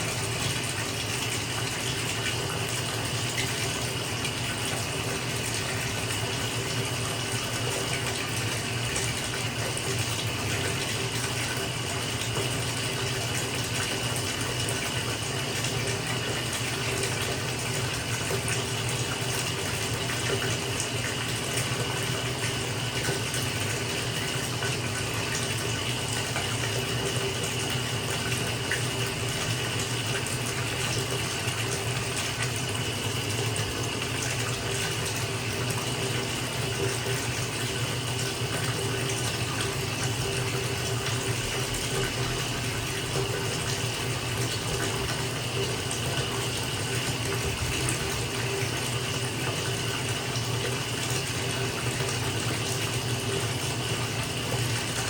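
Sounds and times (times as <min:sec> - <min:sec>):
tap running into bathtub: 0:00.0 - 0:55.0.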